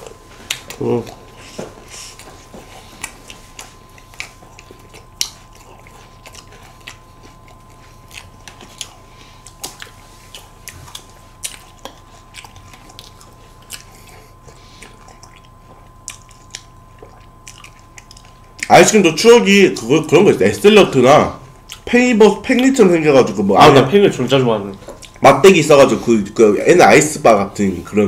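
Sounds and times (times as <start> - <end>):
crunching and chewing: 0.0 - 19.0, 21.0 - 23.4, 24.1 - 26.0.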